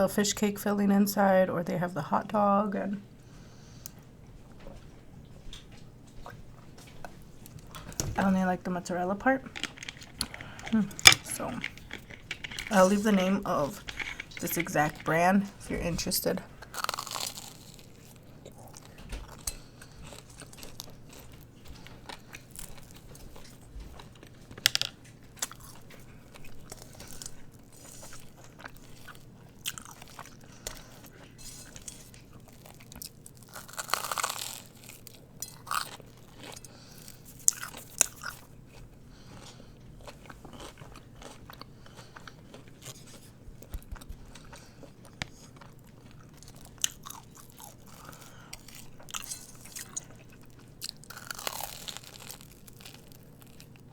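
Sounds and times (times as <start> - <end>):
crunching corn dog crust: 5.5 - 53.9
chewing: 9.2 - 15.8, 16.5 - 53.9.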